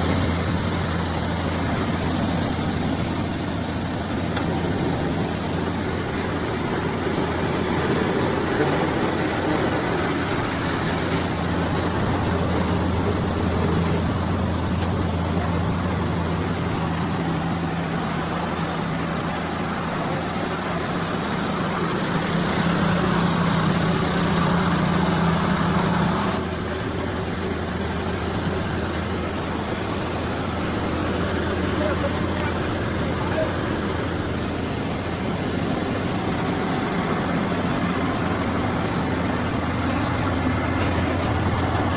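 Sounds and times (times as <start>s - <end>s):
rice milling machine running: 0.0s - 41.9s.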